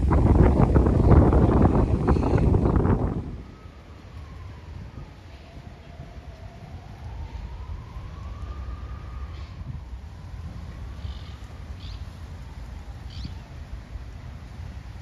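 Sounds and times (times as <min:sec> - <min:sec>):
low rumble of city noise: 0:00.0 - 0:15.0
faint siren wailing: 0:00.4 - 0:14.7.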